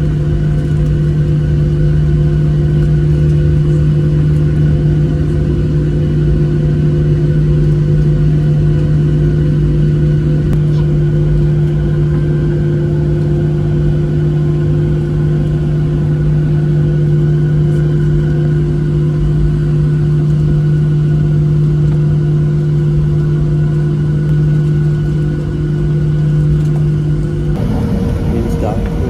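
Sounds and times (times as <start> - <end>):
jet engines humming: 0.0 - 29.0.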